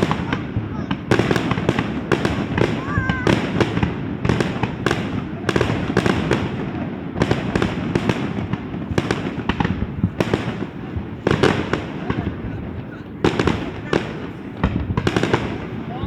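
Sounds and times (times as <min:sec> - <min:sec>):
fireworks bangs: 0:00.0 - 0:16.0
rumble of fireworks bursts: 0:00.0 - 0:16.0.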